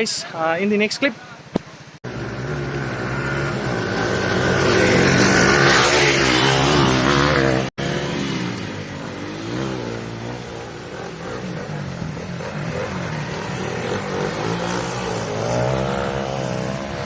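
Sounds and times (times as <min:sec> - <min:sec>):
dirt bike engines revving: 0:01.8 - 0:17.0.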